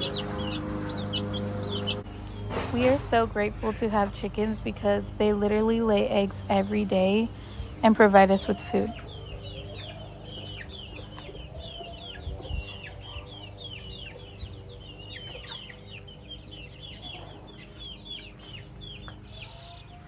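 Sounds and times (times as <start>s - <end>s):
baby chicks peeping: 0.0s - 20.0s
low steady hum: 0.0s - 20.0s.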